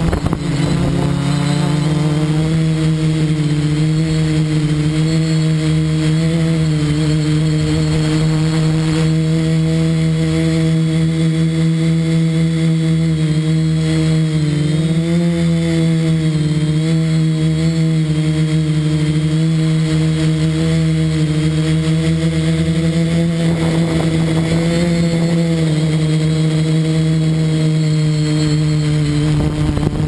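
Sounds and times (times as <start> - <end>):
drone propellers humming: 0.0 - 30.0.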